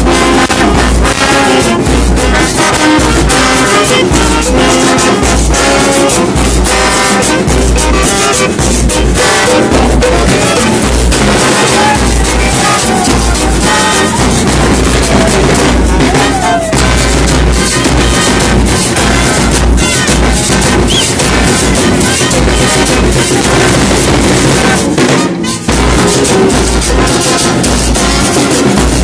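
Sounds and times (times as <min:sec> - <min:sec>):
bass drum beat: 0:00.0 - 0:29.0
trumpets and trombones: 0:00.0 - 0:29.0.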